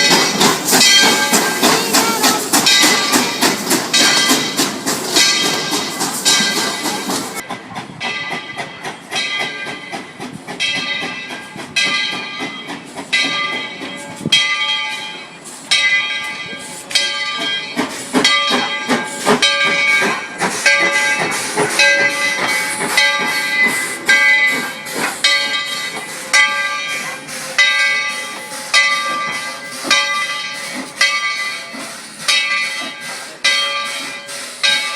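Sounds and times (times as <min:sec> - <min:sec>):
steam locomotive chuffing: 0:00.0 - 0:34.9.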